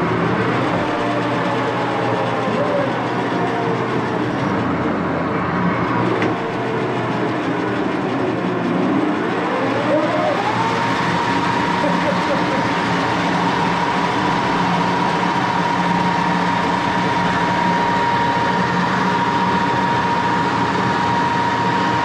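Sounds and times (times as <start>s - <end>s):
lathe gearbox rumble and whine: 0.0s - 22.0s.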